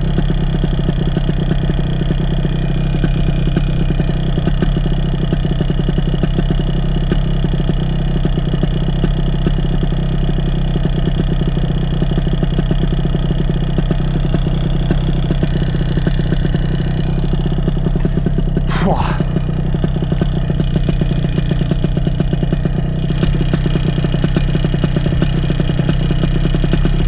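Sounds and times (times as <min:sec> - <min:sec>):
paramotor engine running: 0:00.0 - 0:27.0.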